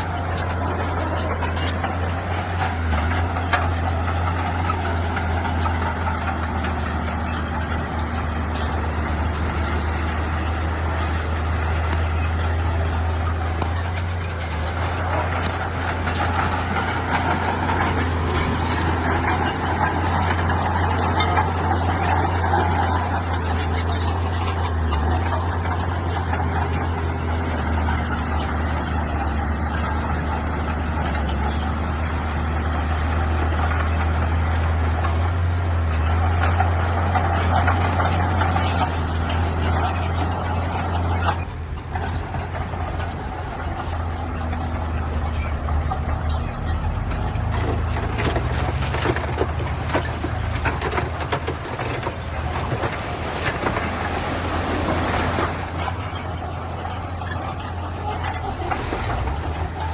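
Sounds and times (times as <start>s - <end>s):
bulldozer engine running: 0.0s - 59.9s
clanking and rattling: 0.0s - 59.9s.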